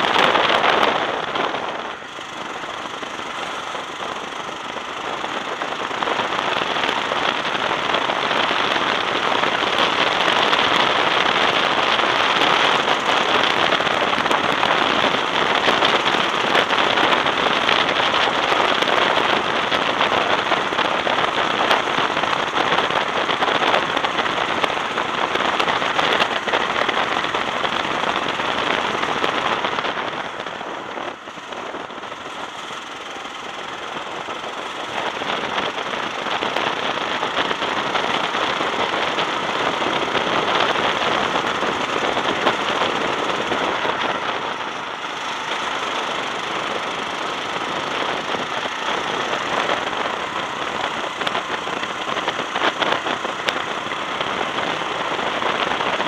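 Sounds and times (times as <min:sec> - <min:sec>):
go-kart engine raspy buzz: 0:00.0 - 0:56.0.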